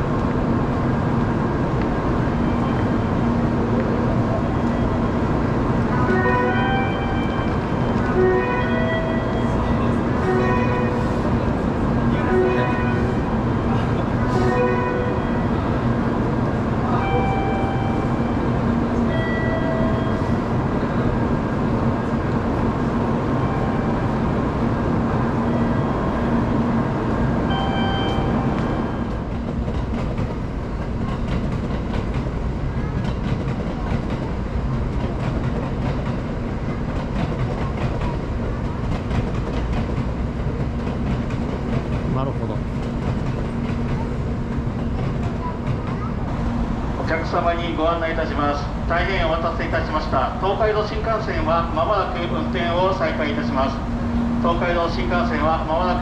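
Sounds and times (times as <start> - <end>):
rumble of rail traffic: 0.0 - 56.0
train humming: 0.0 - 56.0.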